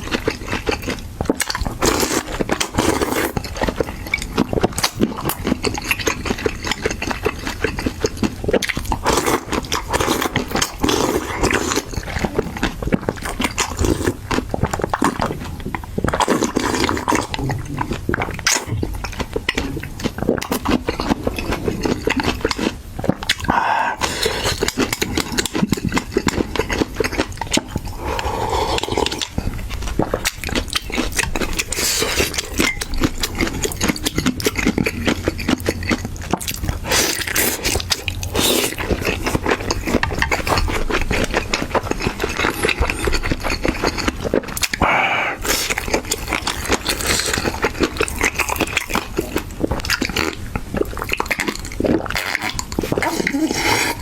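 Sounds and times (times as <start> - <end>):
person chewing and smacking: 0.0 - 54.0.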